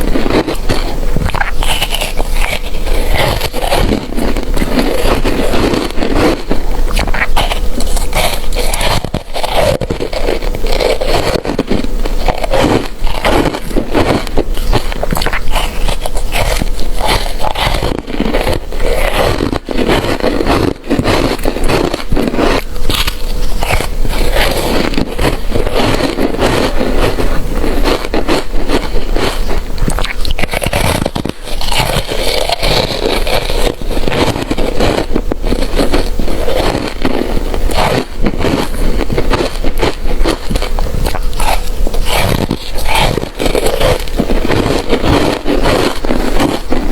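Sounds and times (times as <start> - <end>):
ice being chewed and crunched: 0.0 - 46.9.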